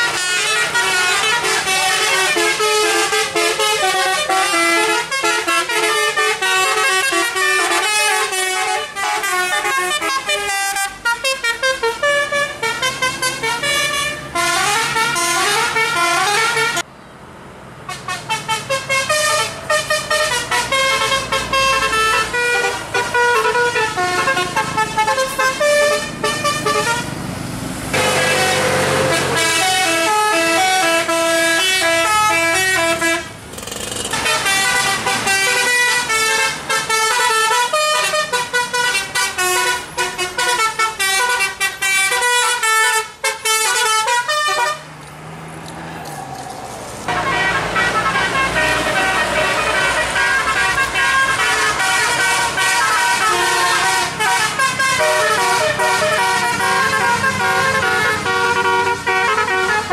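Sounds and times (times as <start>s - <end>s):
musical bus air horns: 0.0s - 16.9s, 17.8s - 27.2s, 27.9s - 45.0s, 47.1s - 59.9s.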